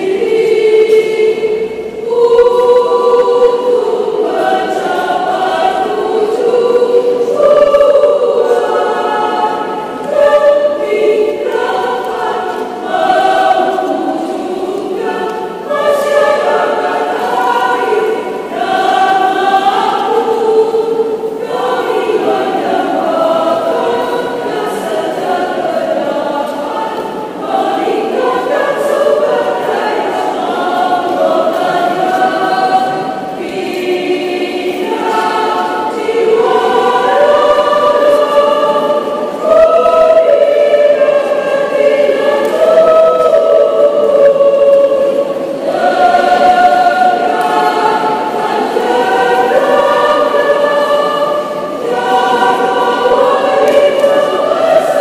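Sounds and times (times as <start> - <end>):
women's choir singing: 0.0 - 55.0.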